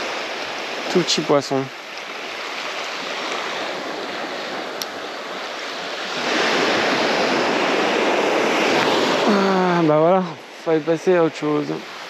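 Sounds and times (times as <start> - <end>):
small waves washing up beach: 0.0 - 12.0.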